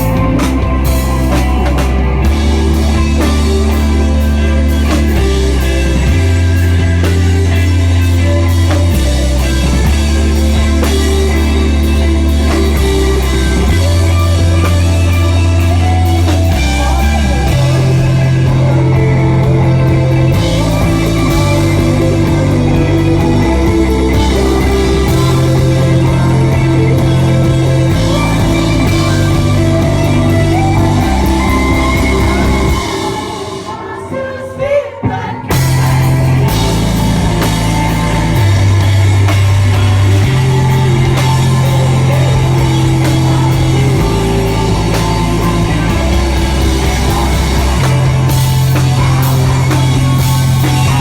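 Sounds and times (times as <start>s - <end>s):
person singing: 0.0s - 51.0s
rock band playing live: 0.0s - 51.0s.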